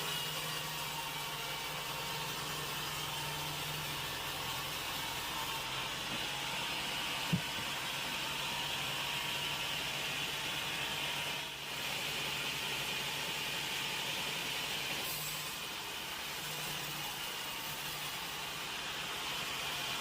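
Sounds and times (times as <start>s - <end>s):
sawmill machinery humming: 0.0s - 20.0s.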